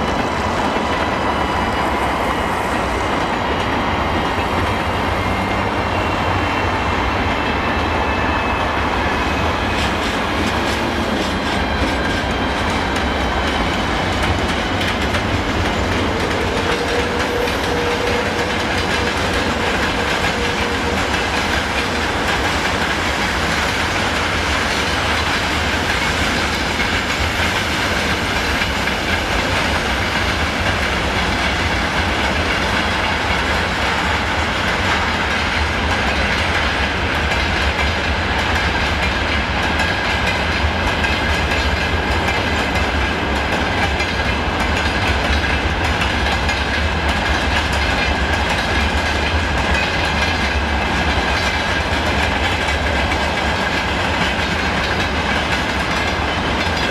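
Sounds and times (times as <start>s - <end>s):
train wheels on rails: 0.0s - 56.9s.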